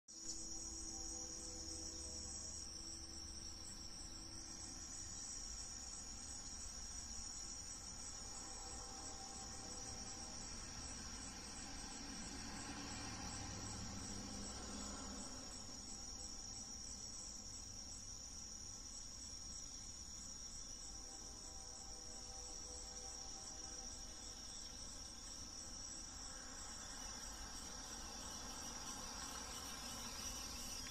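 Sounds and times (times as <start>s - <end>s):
high-pitched insect trilling: 0.1s - 30.9s.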